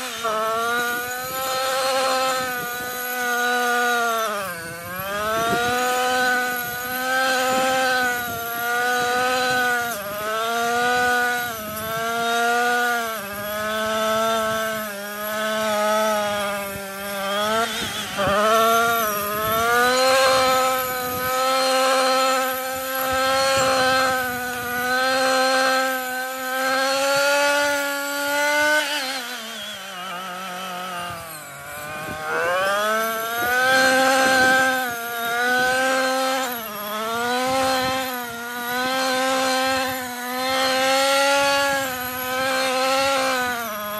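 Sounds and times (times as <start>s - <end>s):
brushcutter engine revving: 0.0s - 43.9s.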